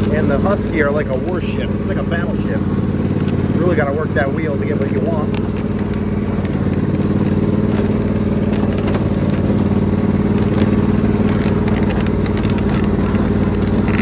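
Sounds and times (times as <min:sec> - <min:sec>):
riding lawn mower engine running: 0:00.0 - 0:14.0.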